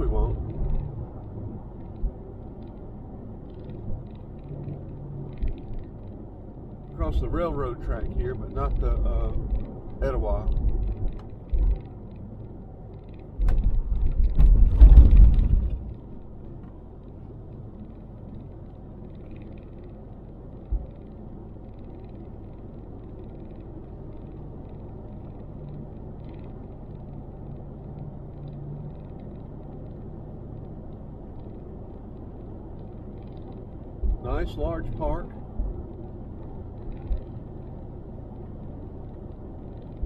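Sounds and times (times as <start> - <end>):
tyre and engine rumble: 0.0 - 40.0.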